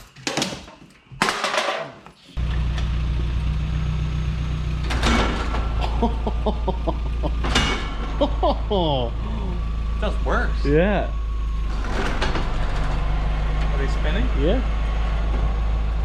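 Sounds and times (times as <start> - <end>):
car engine starting and running: 2.4 - 16.0.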